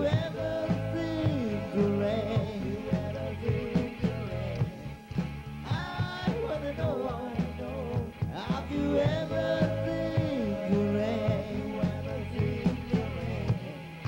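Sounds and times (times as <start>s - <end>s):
person singing: 0.0s - 5.0s, 5.7s - 14.0s
guitar: 0.0s - 14.0s
steady drum beat: 0.0s - 14.0s.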